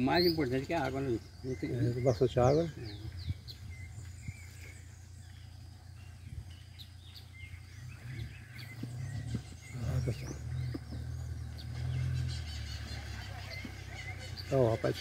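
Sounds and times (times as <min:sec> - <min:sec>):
small birds chirping: 0:00.0 - 0:15.0
steady low rumble: 0:01.2 - 0:14.5.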